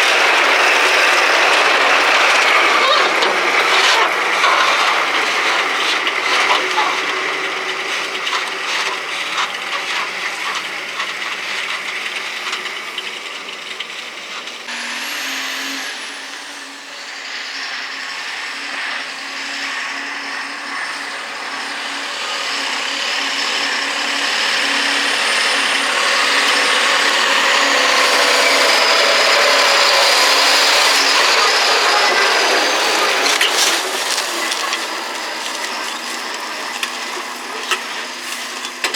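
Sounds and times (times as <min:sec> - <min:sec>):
truck clattering rattle: 0:00.0 - 0:14.7, 0:21.5 - 0:38.9
truck engine hum with whine: 0:00.0 - 0:38.9.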